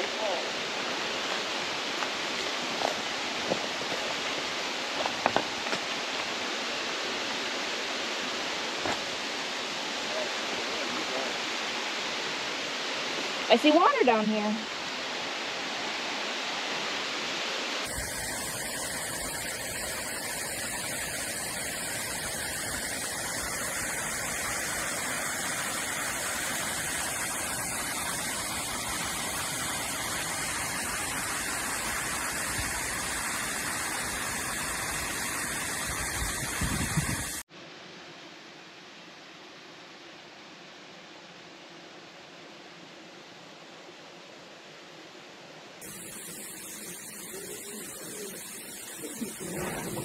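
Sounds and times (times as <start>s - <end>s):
small waterfall rushing: 0.0s - 37.5s, 45.8s - 50.0s.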